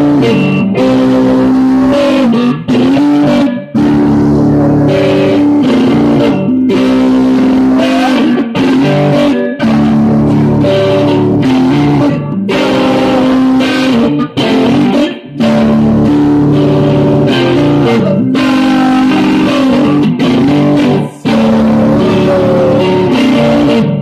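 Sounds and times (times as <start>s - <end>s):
electric guitar chords: 0.0s - 24.0s.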